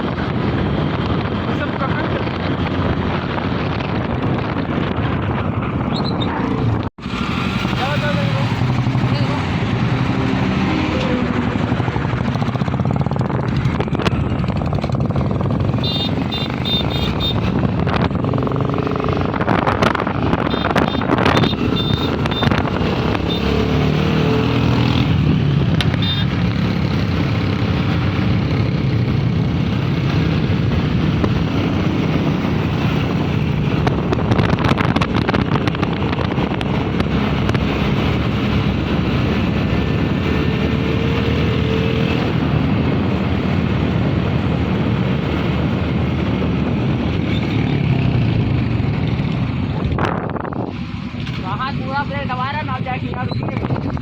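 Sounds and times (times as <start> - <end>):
motorcycle engine running loud: 0.0 - 54.0.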